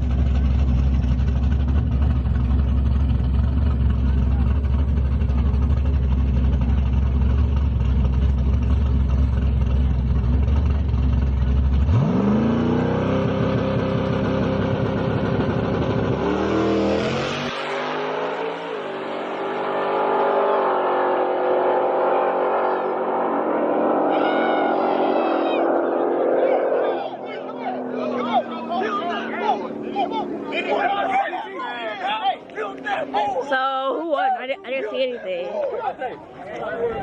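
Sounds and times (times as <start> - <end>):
engine low rumble: 0.0 - 17.5, 21.9 - 37.0
car engine accelerating hard: 0.0 - 34.4.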